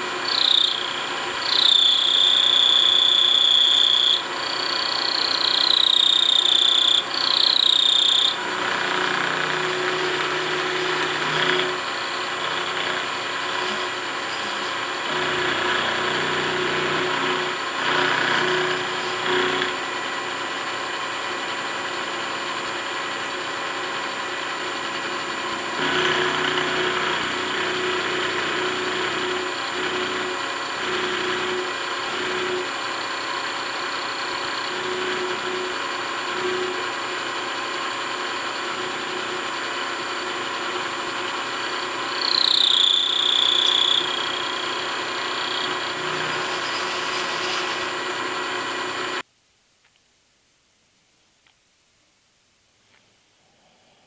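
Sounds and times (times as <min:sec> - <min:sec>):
metal cutting noise: 0:00.0 - 0:20.5, 0:24.0 - 0:49.2
high-pitched cutting whine: 0:00.0 - 0:49.2
milling machine motor hum: 0:00.0 - 0:49.2.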